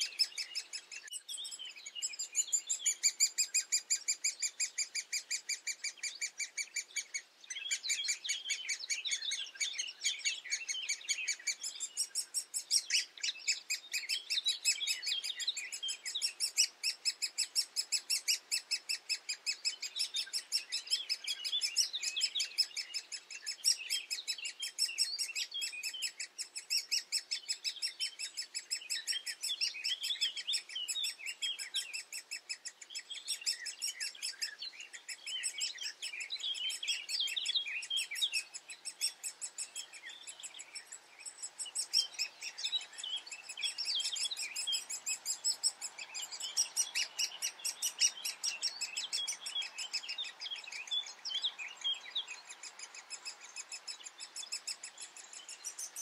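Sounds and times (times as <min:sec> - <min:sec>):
nestlings chirping rapidly: 0:00.0 - 0:56.0.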